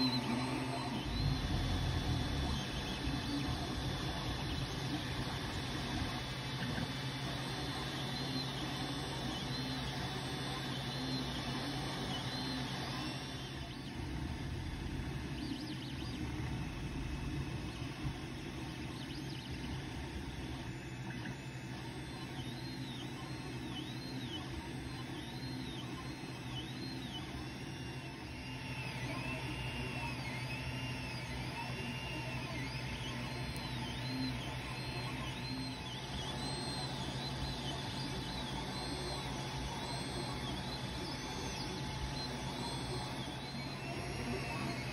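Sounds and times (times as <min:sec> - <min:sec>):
cooling fans humming: 0:00.0 - 0:44.9
stepper motors whining: 0:00.0 - 0:44.9.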